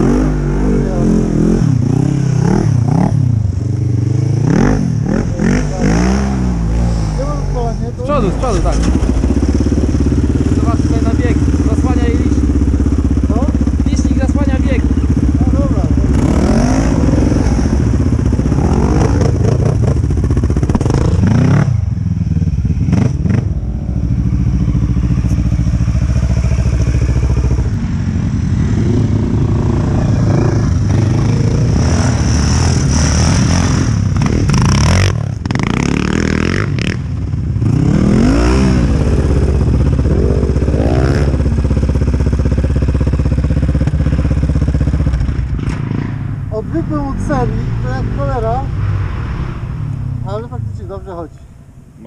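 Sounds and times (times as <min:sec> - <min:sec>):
quad bike engines revving: 0:00.0 - 0:52.0.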